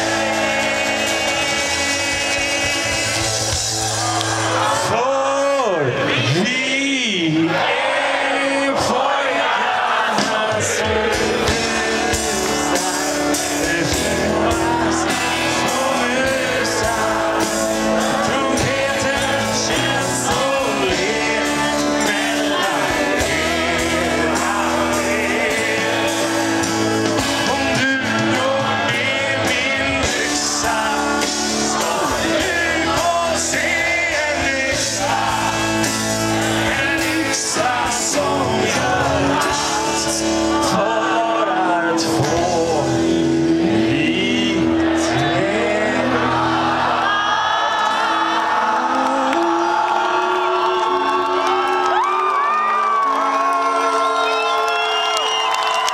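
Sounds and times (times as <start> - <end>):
man singing lead vocal: 0.0 - 54.4
live pop-rock band: 0.0 - 55.9.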